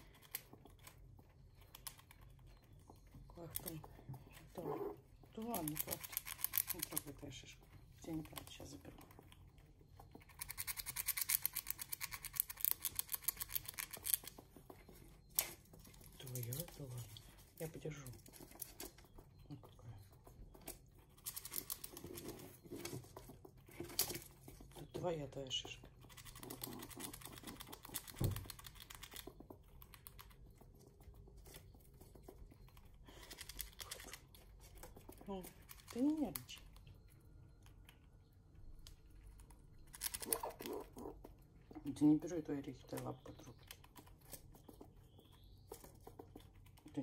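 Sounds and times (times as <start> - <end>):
squirrel gnawing nut shell: 0.0 - 47.0.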